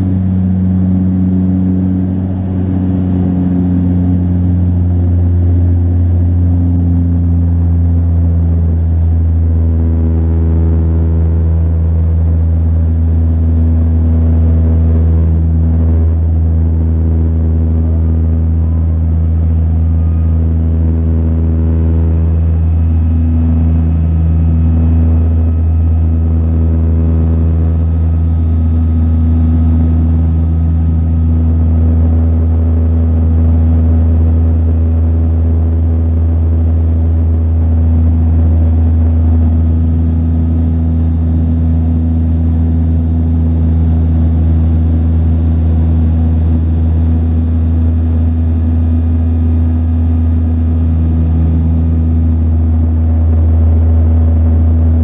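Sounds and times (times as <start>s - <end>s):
turboprop cabin drone: 0.0s - 55.0s.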